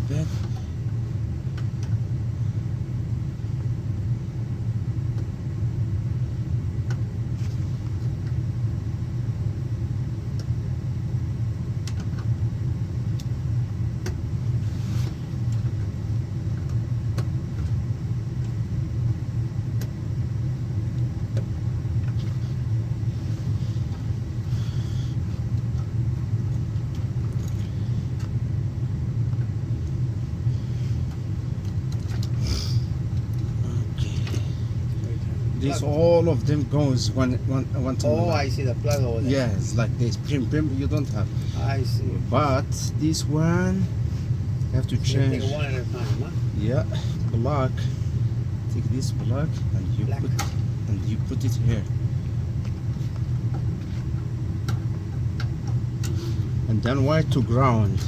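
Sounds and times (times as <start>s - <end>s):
low rumbling hum: 0.0s - 58.0s.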